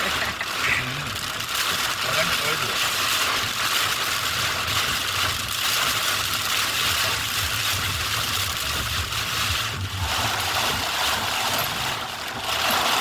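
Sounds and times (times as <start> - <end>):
car engine and road rumble: 0.0 - 13.0
rain hiss on wet road: 0.0 - 13.0.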